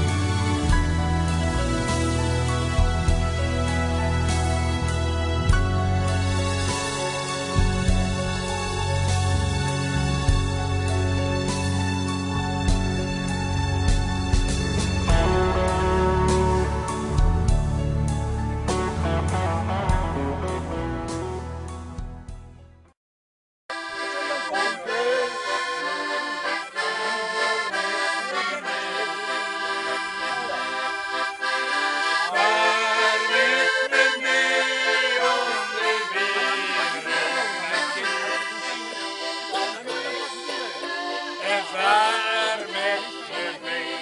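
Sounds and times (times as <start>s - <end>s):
harmonica: 0.0s - 21.5s, 23.7s - 44.0s
accordion playing chords and tune: 0.0s - 22.5s, 23.7s - 44.0s.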